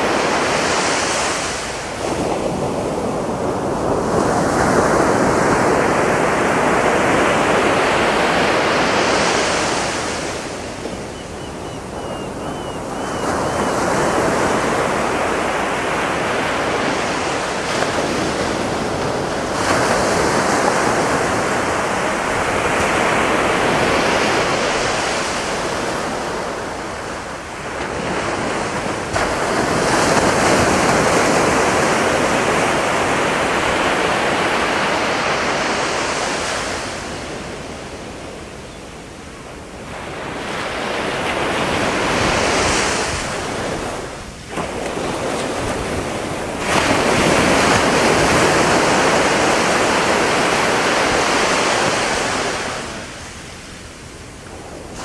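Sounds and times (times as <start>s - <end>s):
waves crashing on beach: 0.0s - 55.0s.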